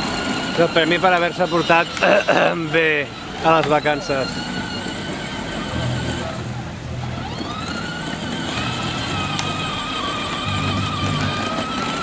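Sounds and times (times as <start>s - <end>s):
electric scooter motor whining: 0.0s - 12.0s.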